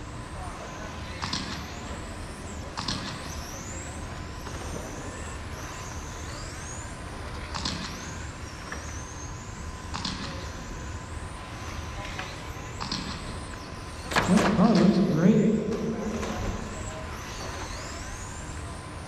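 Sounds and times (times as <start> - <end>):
rc car motors whining: 0.0 - 15.0, 15.7 - 19.0.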